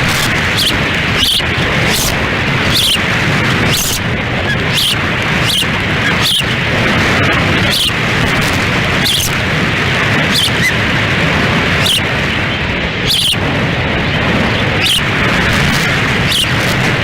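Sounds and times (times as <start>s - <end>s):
osprey chirps: 0.0s - 11.0s, 11.7s - 13.4s, 14.1s - 17.0s
wind buffeting microphone: 0.0s - 17.0s.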